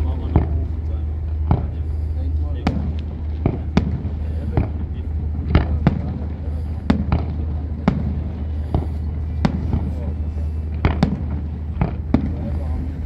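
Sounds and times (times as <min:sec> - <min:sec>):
fireworks bangs: 0:00.0 - 0:13.0
steady low hum: 0:00.0 - 0:13.0.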